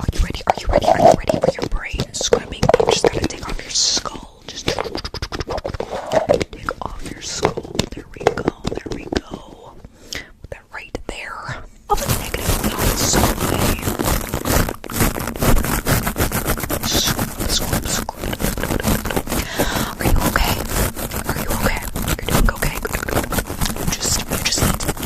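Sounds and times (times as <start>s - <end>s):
close-up scratching and scraping: 0.0s - 9.9s, 11.9s - 25.0s.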